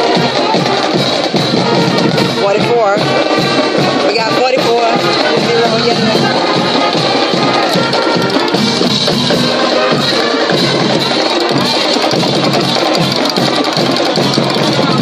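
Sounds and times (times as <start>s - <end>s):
drums keeping a steady beat: 0.0s - 15.0s
marching band brass: 0.0s - 15.0s.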